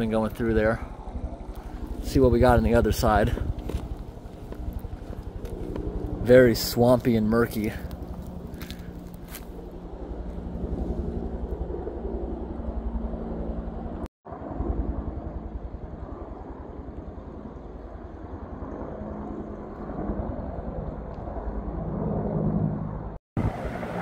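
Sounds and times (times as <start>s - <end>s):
helicopter rotor beating: 0.0s - 24.0s.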